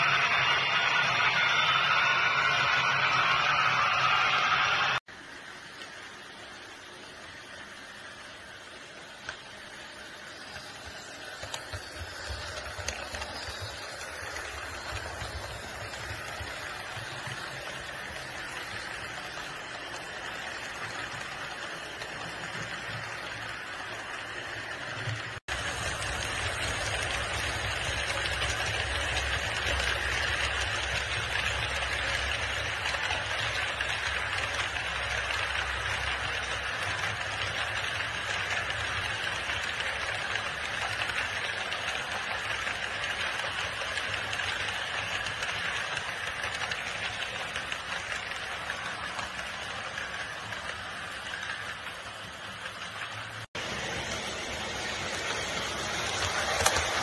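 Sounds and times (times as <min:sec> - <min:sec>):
model trains rolling on track: 0:00.0 - 0:57.0.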